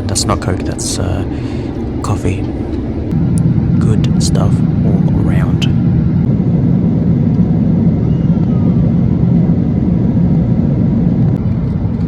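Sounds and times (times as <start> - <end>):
airplane cabin low roar: 0.0 - 12.0.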